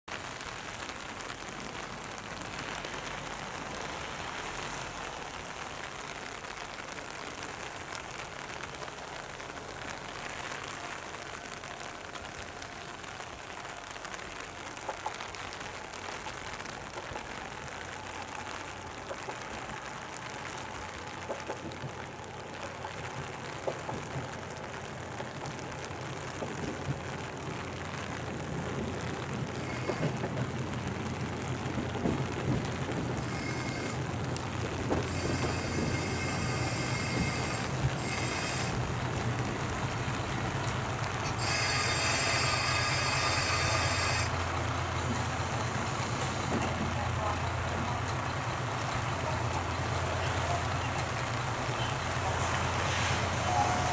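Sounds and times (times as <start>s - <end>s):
steady rain falling: 0.0s - 53.9s
diesel railcar engine hum: 0.2s - 53.9s.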